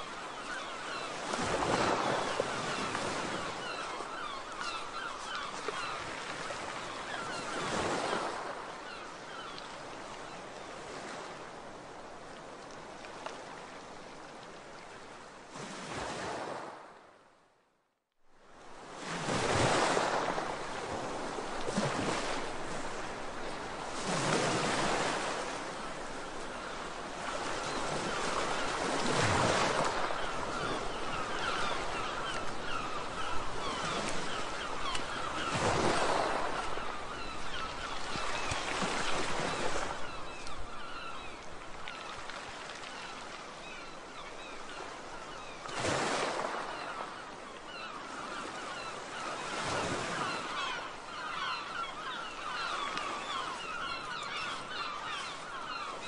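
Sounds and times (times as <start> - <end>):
sea waves breaking: 0.0 - 17.0, 18.5 - 56.0.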